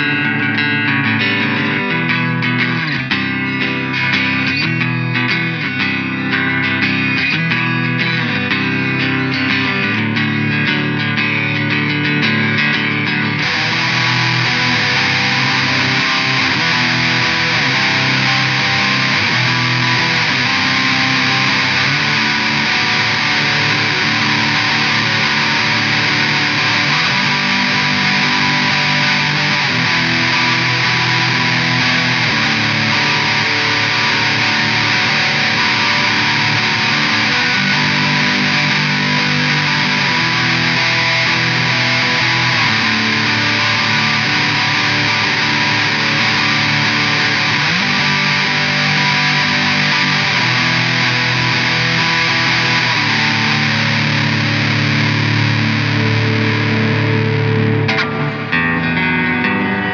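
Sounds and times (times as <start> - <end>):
distorted electric guitar riff: 0.0 - 59.9.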